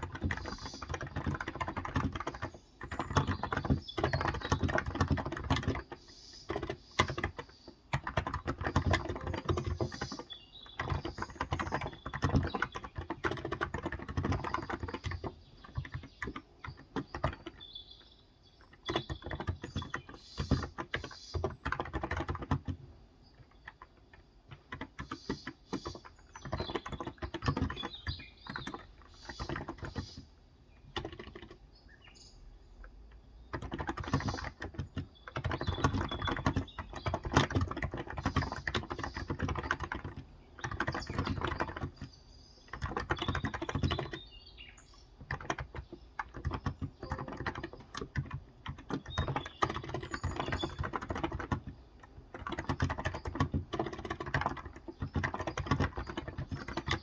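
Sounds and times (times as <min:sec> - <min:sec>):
fast typing on keyboard: 0:00.0 - 0:31.7, 0:32.8 - 0:57.0.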